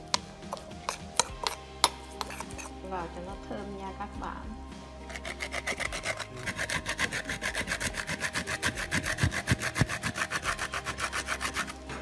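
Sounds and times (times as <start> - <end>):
spoon scraping a metal bowl: 0.1 - 2.8, 5.0 - 12.0.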